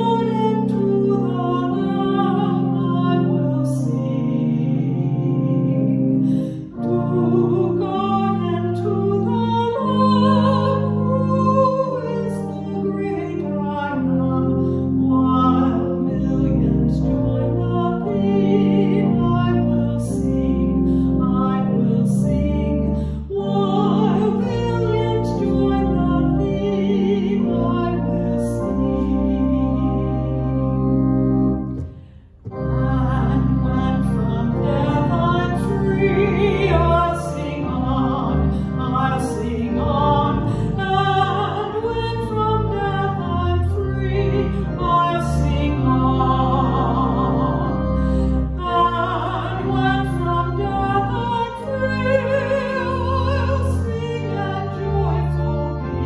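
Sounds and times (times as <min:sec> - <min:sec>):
hymn singing: 0:00.0 - 0:56.0
instrumental accompaniment: 0:00.0 - 0:56.0.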